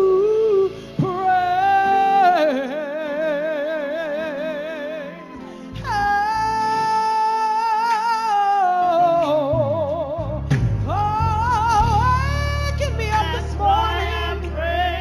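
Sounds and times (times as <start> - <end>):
gospel singer holding high note: 0.0 - 15.0
low instrumental backing: 0.0 - 15.0.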